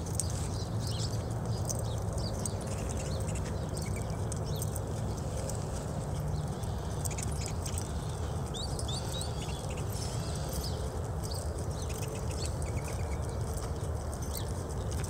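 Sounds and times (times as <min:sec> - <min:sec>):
horse hoofbeats on dirt: 0:00.0 - 0:15.0
small birds chirping: 0:00.0 - 0:15.0.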